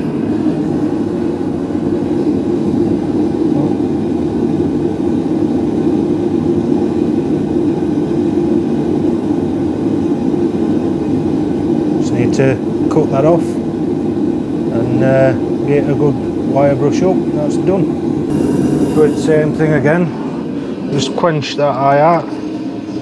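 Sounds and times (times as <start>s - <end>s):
forge burner running: 0.0s - 23.0s.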